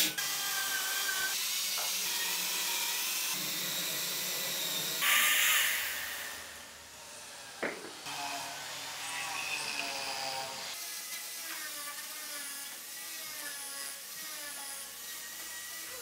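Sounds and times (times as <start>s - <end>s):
power tool whining cutting wood: 0.0s - 16.0s.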